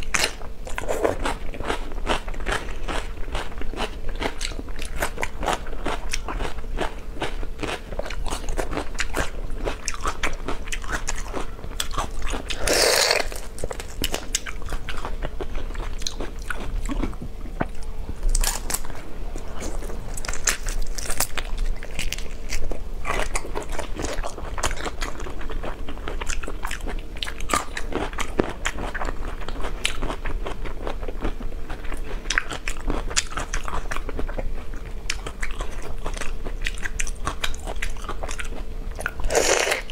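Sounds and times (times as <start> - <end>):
crunching shells and chewing: 0.0 - 39.9.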